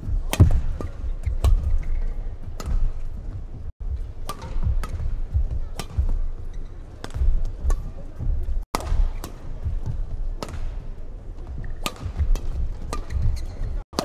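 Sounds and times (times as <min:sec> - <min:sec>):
rackets hitting shuttlecock: 0:00.1 - 0:03.3, 0:04.0 - 0:08.0, 0:08.8 - 0:14.0.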